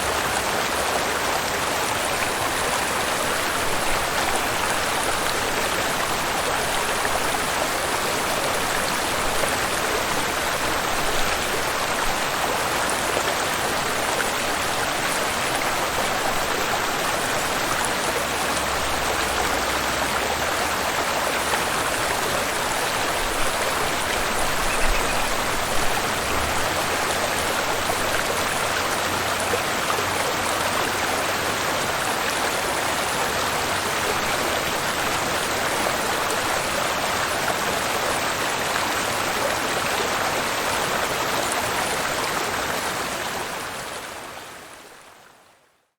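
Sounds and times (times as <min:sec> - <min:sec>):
waterfall and river rushing: 0:00.0 - 0:45.4.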